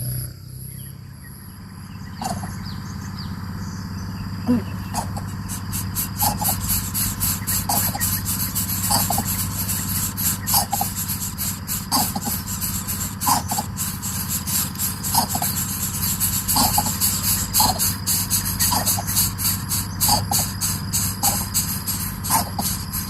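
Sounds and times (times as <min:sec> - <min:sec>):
insects chirring: 0:00.0 - 0:23.0
short squealing calls: 0:02.1 - 0:02.8, 0:04.4 - 0:23.0.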